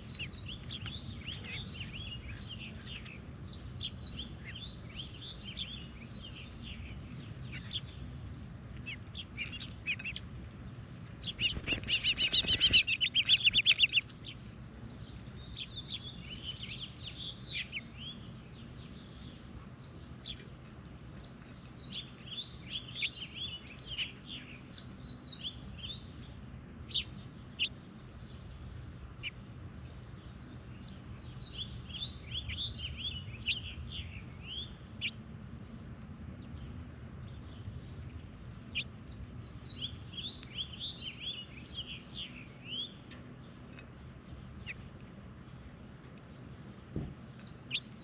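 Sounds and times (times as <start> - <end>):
birds chirping rapidly: 0.0 - 48.0.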